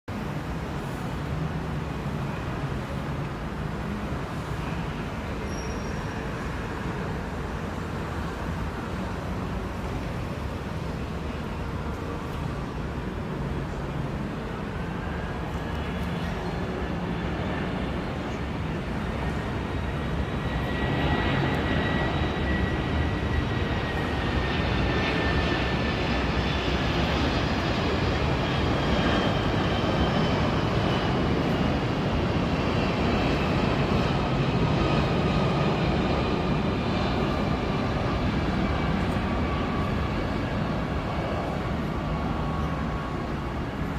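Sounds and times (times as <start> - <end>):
high jet whine: 0.1 - 43.9
jet engines rumbling: 0.2 - 43.9.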